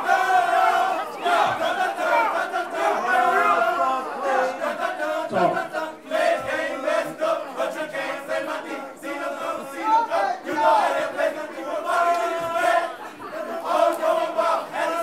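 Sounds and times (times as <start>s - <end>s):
crowd chanting and shouting: 0.0s - 15.0s.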